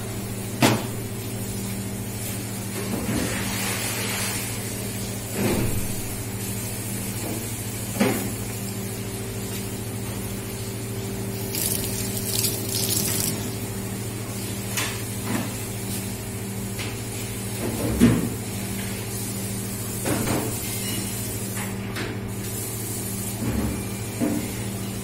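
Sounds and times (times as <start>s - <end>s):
low hum of kitchen: 0.0s - 25.0s.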